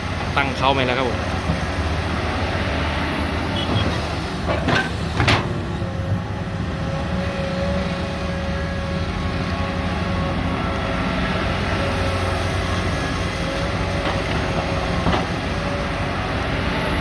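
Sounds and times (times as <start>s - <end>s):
excavator diesel engines running: 0.0s - 17.0s.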